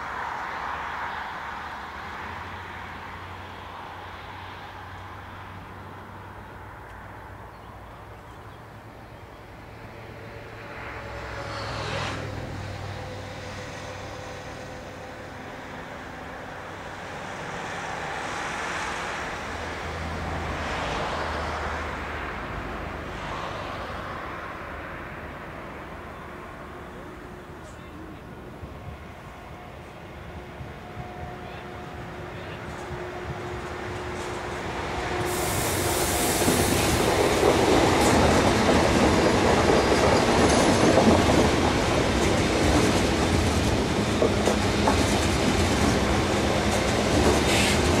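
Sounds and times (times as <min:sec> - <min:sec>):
road traffic passing: 0:00.0 - 0:48.0.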